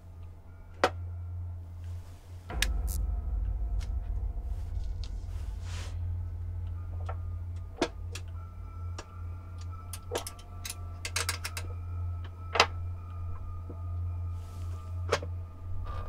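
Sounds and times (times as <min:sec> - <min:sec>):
faint held tones: 0:00.0 - 0:16.0
low steady hum: 0:00.0 - 0:16.0.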